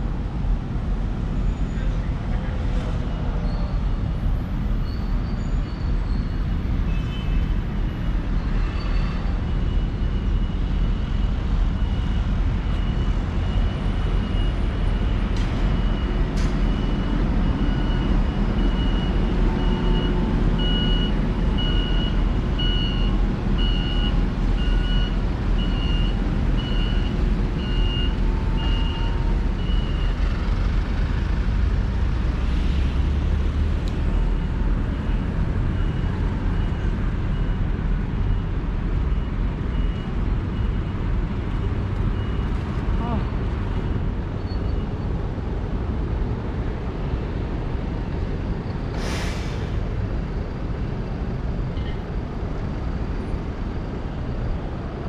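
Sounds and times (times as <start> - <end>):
street traffic: 0.0 - 55.0
large vehicle engine running: 9.2 - 55.0.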